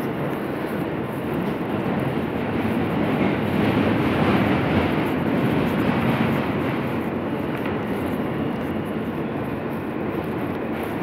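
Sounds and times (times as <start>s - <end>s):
subway train roaring: 0.0s - 11.0s.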